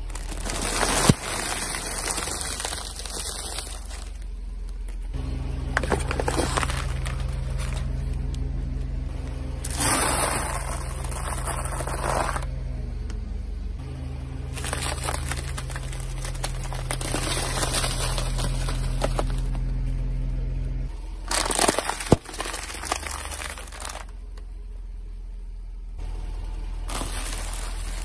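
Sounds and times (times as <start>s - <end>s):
crackling and crumpling under tyre: 0.0s - 13.2s, 14.4s - 20.2s, 21.1s - 24.5s, 26.8s - 28.0s
low steady hum: 0.0s - 28.0s.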